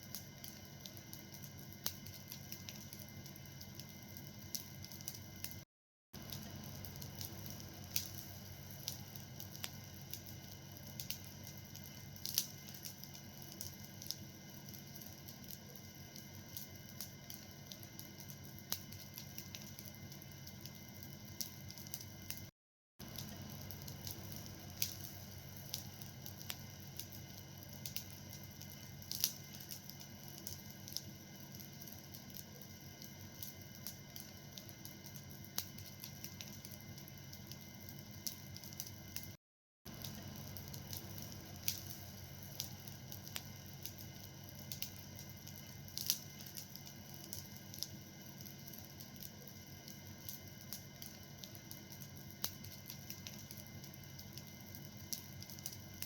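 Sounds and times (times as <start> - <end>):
fire crackling and popping: 0.0 - 5.6, 6.2 - 56.0.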